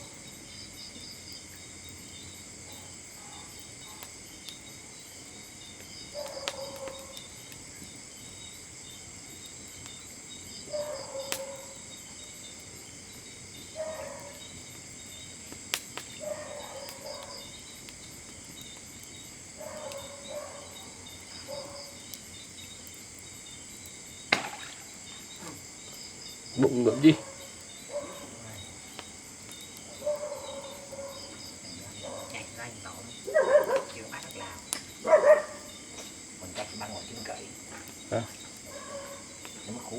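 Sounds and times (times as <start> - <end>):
crickets and night insects chirping: 0.0 - 39.9.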